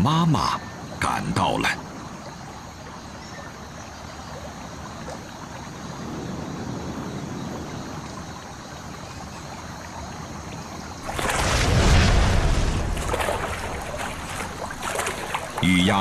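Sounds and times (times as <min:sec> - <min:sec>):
pond water lapping and trickling: 0:00.0 - 0:16.0.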